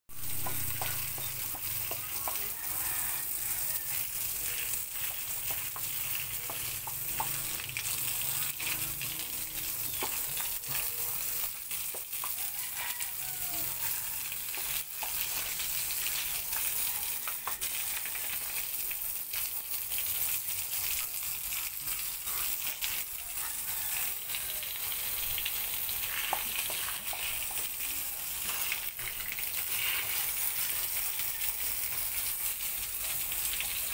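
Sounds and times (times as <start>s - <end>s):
garden hose spraying: 0.1s - 33.9s
water splashing on concrete: 0.1s - 33.9s.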